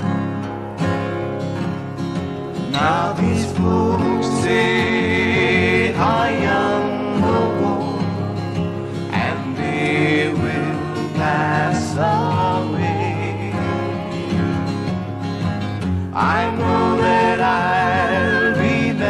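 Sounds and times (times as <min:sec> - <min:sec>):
acoustic guitar melody: 0:00.0 - 0:19.0.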